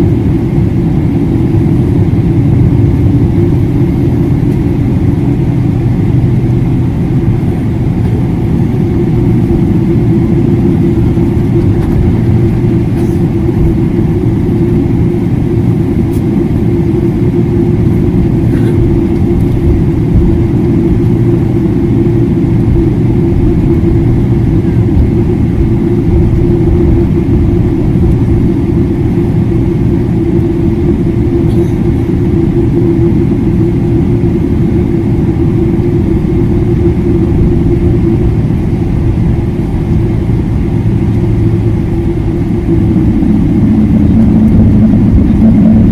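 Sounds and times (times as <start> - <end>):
aircraft cabin engine drone: 0.0 - 45.9.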